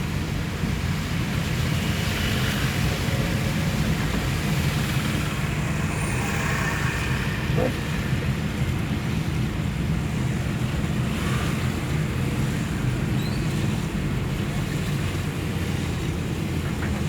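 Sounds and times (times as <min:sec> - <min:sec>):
heavy rain: 0:00.0 - 0:17.0
running flood water: 0:00.0 - 0:17.0
traffic rumble: 0:00.0 - 0:17.0.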